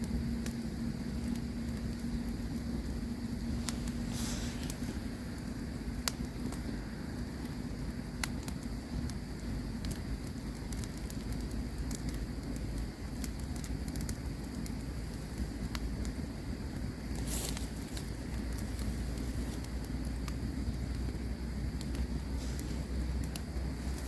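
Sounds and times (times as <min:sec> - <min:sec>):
campfire crackling: 0:00.0 - 0:24.0
sharp fire pops: 0:00.0 - 0:24.0.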